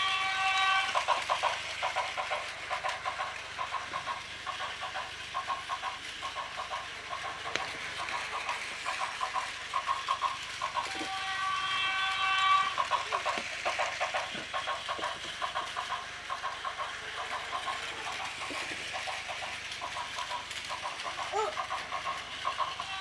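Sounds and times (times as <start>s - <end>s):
toy train motor whirring: 0.0s - 23.0s.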